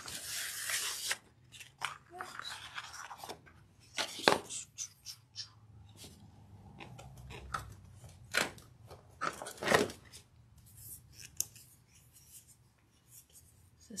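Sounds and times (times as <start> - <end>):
rustling of craft supplies: 0.0 - 5.2, 5.8 - 14.0.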